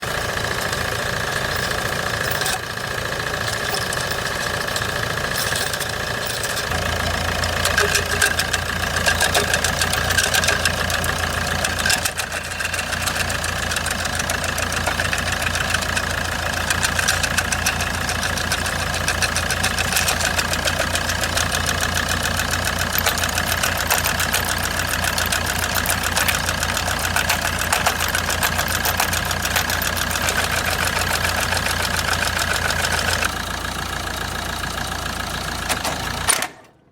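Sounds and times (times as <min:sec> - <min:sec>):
engine running with clatter: 0:00.0 - 0:36.9.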